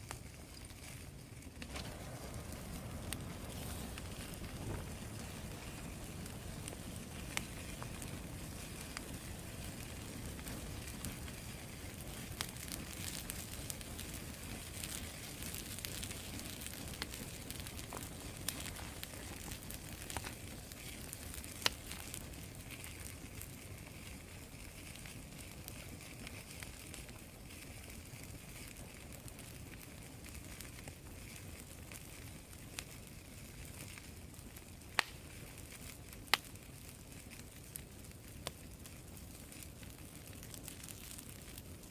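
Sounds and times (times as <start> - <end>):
fire popping sharply: 0.0 - 41.9
wood fire rushing and crackling: 0.0 - 41.9.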